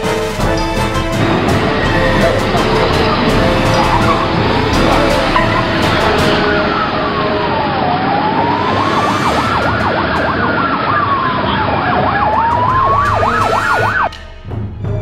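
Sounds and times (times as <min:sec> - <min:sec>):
wailing siren: 0:01.2 - 0:14.3
yelping siren: 0:01.9 - 0:14.2.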